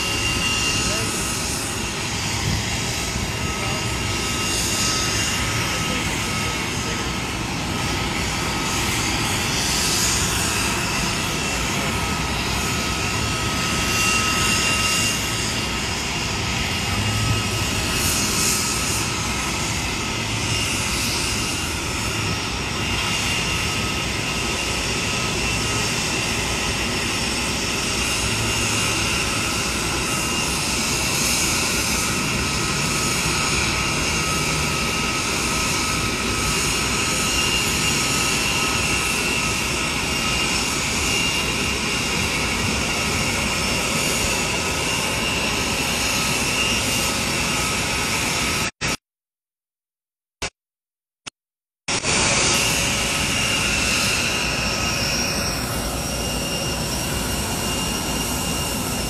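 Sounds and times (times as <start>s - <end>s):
jet engine whine: 0.0s - 49.0s, 51.8s - 59.0s.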